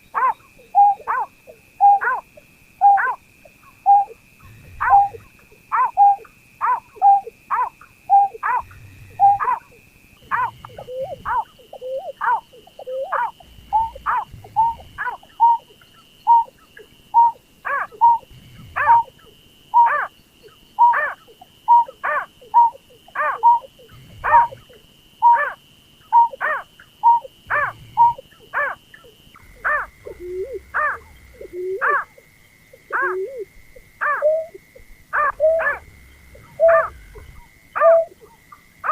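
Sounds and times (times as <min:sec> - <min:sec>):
faint steady high tone: 0:00.0 - 0:38.9.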